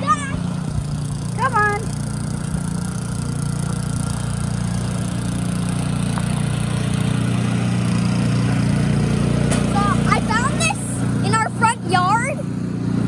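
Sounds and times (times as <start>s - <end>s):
snow blower engine droning: 0.0s - 13.0s.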